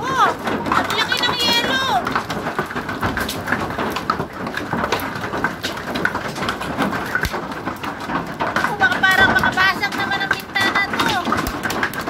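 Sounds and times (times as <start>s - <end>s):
hailstones ticking on hard surfaces: 0.0s - 12.0s.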